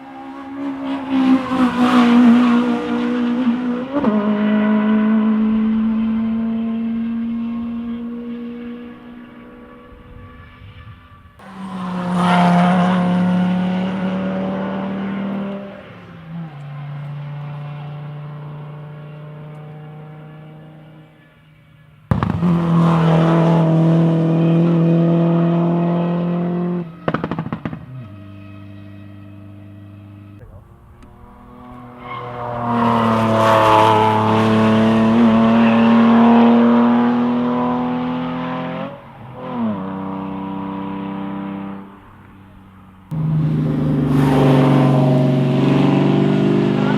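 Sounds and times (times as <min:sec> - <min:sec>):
rally car engine passing: 0:00.0 - 0:46.9.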